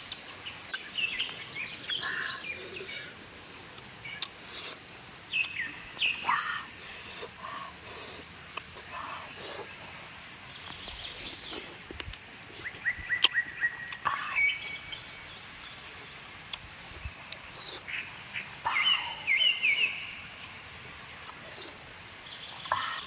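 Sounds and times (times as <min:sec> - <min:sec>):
bird chirping: 0:00.0 - 0:03.3, 0:05.3 - 0:07.7, 0:08.8 - 0:11.9, 0:12.5 - 0:20.5, 0:21.2 - 0:23.0.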